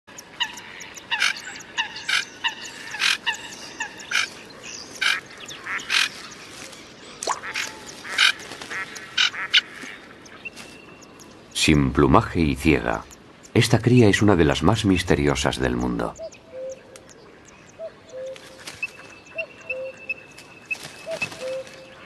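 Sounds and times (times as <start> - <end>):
birds calling harsh notes: 0.1 - 22.0.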